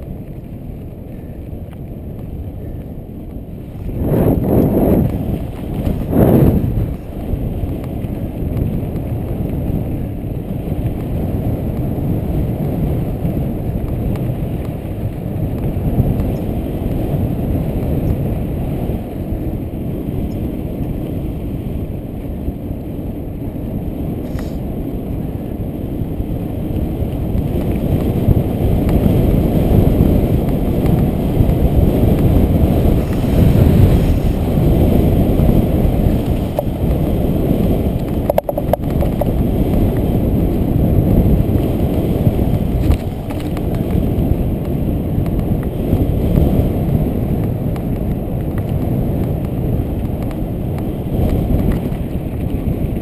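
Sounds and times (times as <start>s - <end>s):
bike tyres rolling on dirt: 0.0s - 53.0s
wind buffeting microphone: 0.0s - 53.0s.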